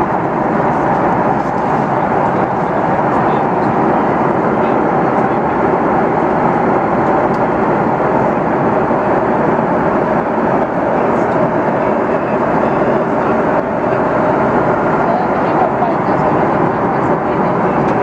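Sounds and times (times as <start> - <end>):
jet engine and airflow noise: 0.0 - 18.0.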